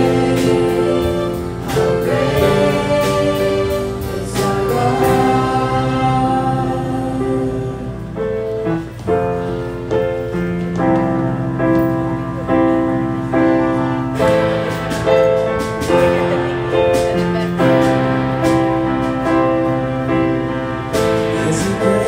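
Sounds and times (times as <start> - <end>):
keyboard playing sustained chords: 0.0 - 22.0.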